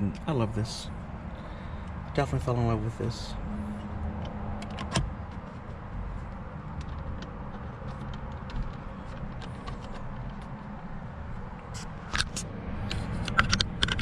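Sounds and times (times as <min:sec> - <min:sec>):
vehicle cabin hum: 0:00.0 - 0:14.0.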